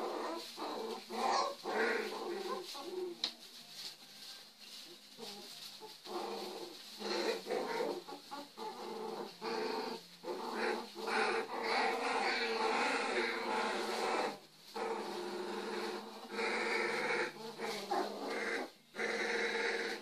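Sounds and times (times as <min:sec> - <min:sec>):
puppies growling and yapping: 0:00.0 - 0:03.3, 0:05.1 - 0:20.0.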